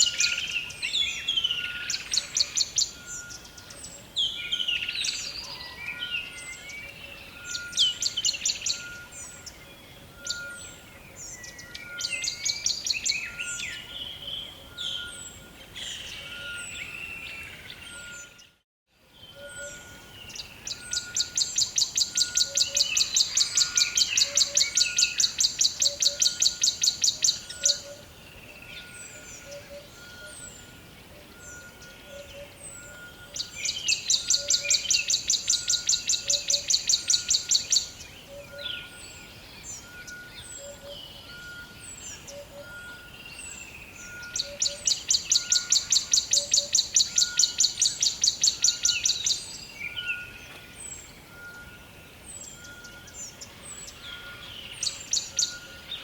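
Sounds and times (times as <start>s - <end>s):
birds chirping and calling: 0.0s - 18.6s, 19.2s - 56.0s.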